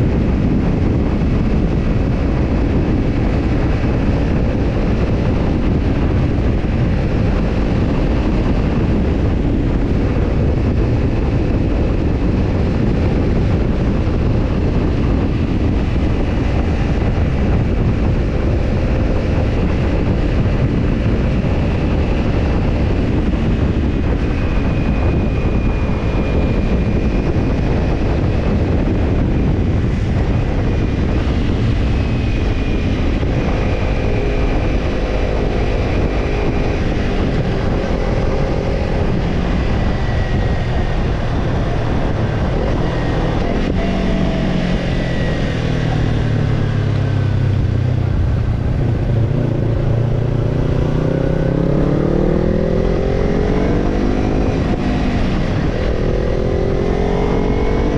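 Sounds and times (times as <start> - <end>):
motorcycle engine: 0.0 - 57.9
wind rushing on microphone: 0.0 - 57.9.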